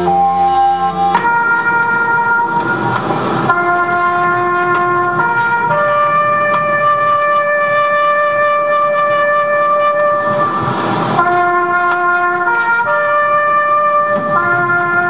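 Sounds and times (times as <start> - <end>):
hissing swell: 0.0 - 15.0
slow orchestral wind music: 0.0 - 15.0.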